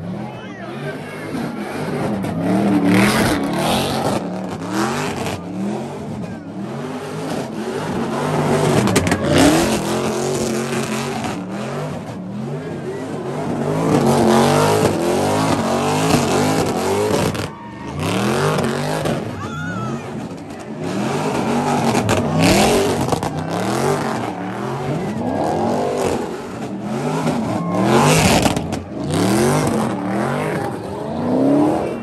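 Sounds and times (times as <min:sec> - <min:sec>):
car engine revving hard: 0:00.0 - 0:32.0
crowd shouting: 0:00.0 - 0:32.0.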